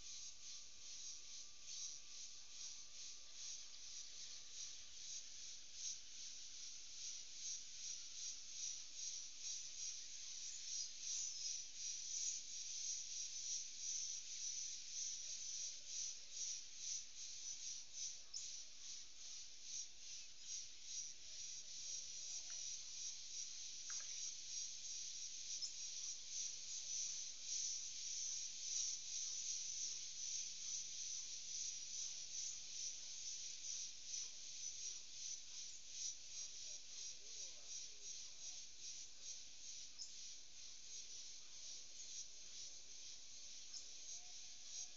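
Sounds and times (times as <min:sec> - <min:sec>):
insects trilling and buzzing: 0:00.0 - 0:44.9.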